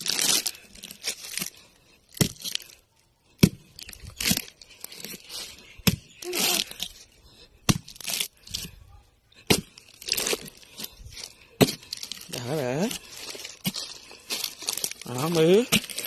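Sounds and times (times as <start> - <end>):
wood tearing and crumbling: 0.0 - 2.8, 3.4 - 7.0, 7.7 - 8.8, 9.5 - 16.0
rotten wood cracking: 0.0 - 16.0.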